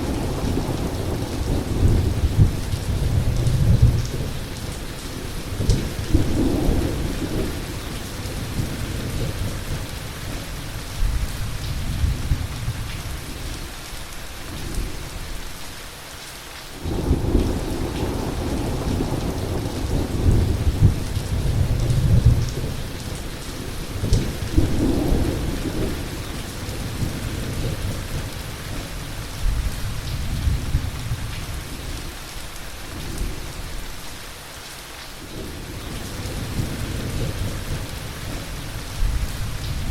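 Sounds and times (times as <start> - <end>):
thunder rumbling: 0.0 - 13.6, 16.8 - 32.0, 35.3 - 39.9
heavy rain falling: 0.0 - 39.9.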